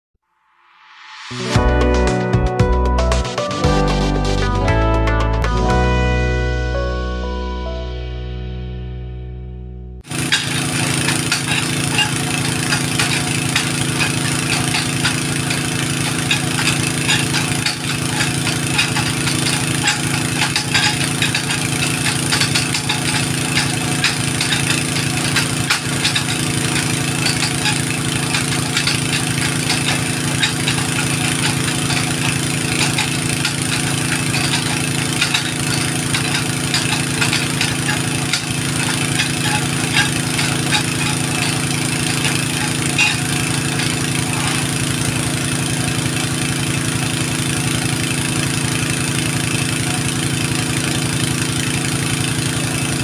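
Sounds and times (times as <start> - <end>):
engine running steadily: 10.0 - 53.0.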